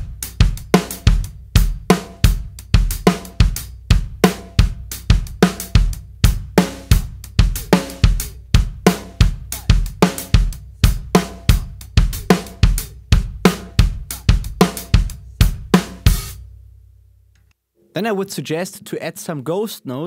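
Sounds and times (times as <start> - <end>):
drums and cymbals ringing out: 0.0 - 16.4
drum kit groove: 0.0 - 16.5.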